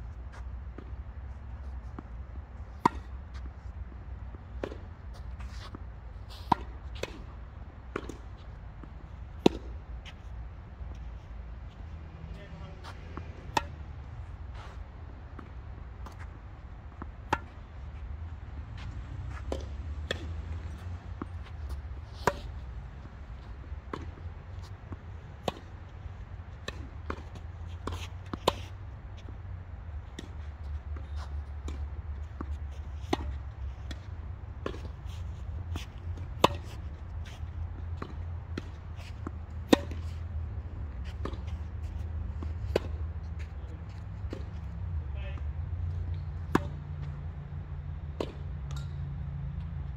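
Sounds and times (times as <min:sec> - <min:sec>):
tennis balls bouncing on court: 0:02.7 - 0:03.5, 0:04.2 - 0:10.3, 0:12.3 - 0:44.8, 0:45.4 - 0:47.4
tennis balls struck by racquets: 0:02.7 - 0:10.3, 0:12.3 - 0:44.8, 0:45.4 - 0:47.3.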